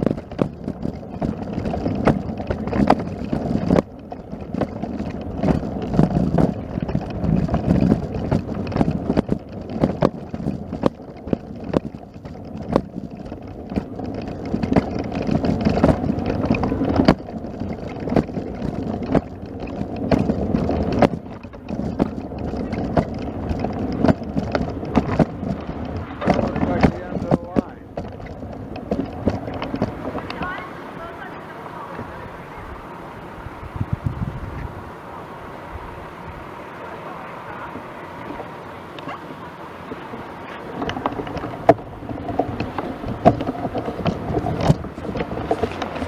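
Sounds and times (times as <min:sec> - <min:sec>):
irregular clicks and knocks: 0:00.0 - 0:30.7, 0:38.2 - 0:46.0
wind buffeting microphone: 0:00.0 - 0:46.0.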